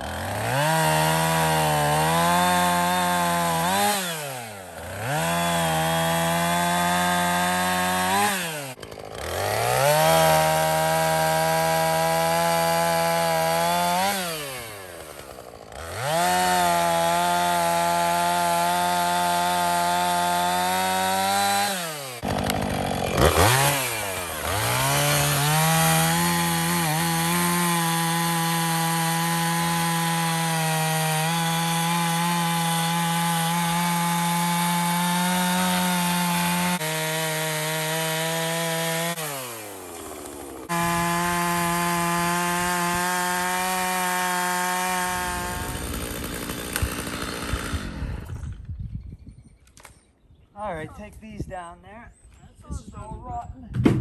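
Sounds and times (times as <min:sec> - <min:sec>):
chainsaw cutting wood: 0:00.0 - 0:48.7.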